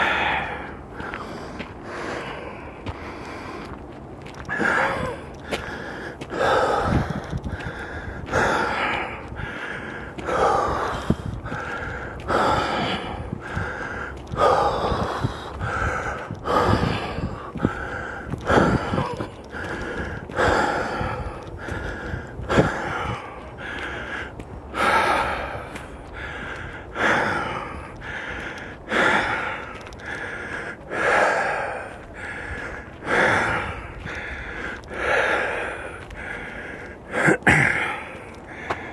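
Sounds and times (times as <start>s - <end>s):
person breathing heavily: 0.0s - 38.9s.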